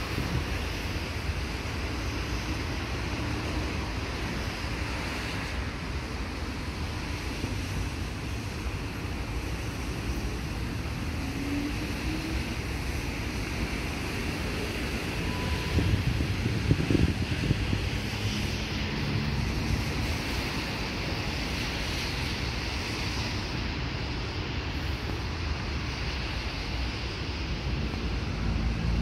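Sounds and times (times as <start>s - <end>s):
wind buffeting the microphone: 0.0s - 29.0s.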